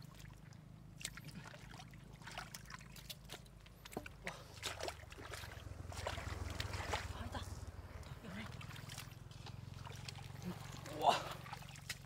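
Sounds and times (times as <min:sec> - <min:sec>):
low steady hum: 0:00.0 - 0:12.0
shallow water splashing: 0:00.0 - 0:12.0.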